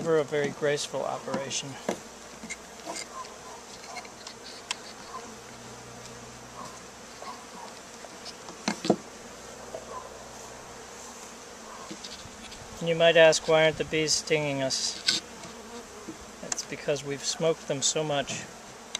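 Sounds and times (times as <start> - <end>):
honey bees buzzing: 0.0 - 18.9.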